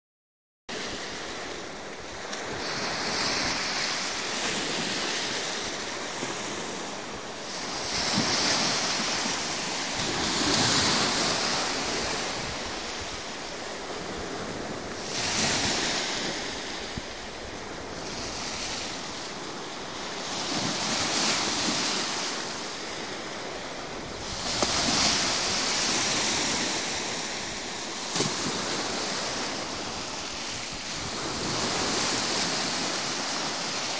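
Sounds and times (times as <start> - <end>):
small waves washing over concrete: 0.7 - 33.9.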